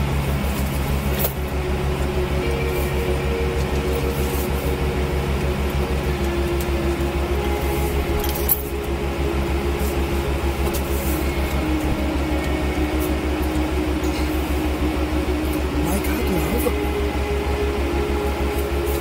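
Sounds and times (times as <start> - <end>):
vehicle engine and road drone: 0.0 - 19.0.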